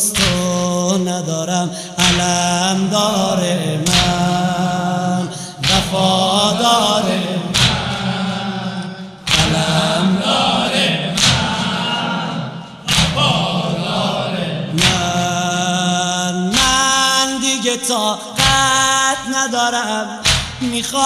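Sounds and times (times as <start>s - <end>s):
heavy rhythmic thumps: 0.0s - 17.6s, 18.4s - 19.6s, 20.2s - 21.0s
chorus singing a lament: 0.0s - 21.0s.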